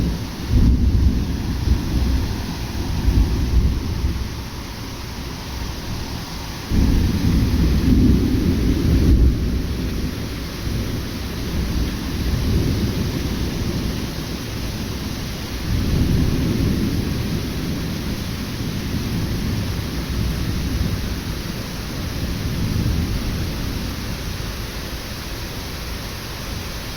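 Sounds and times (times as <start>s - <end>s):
thunder rumbling: 0.0s - 24.9s
heavy rain: 0.0s - 26.9s.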